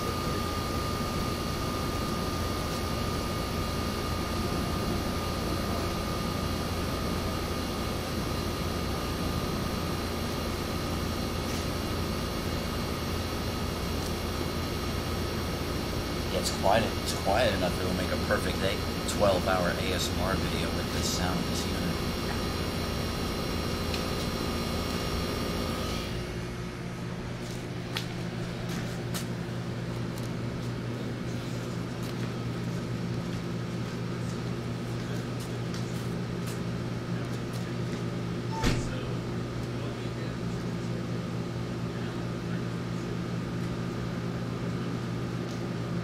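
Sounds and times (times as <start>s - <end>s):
air conditioner hum: 0.0s - 46.0s.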